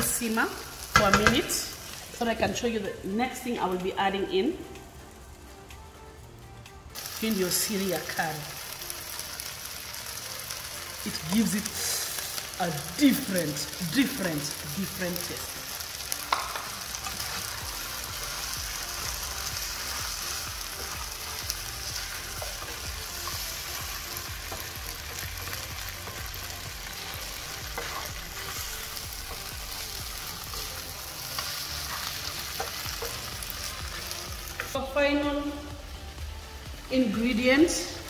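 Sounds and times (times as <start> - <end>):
curry sizzling in a pan: 0.0 - 5.5, 6.9 - 38.0.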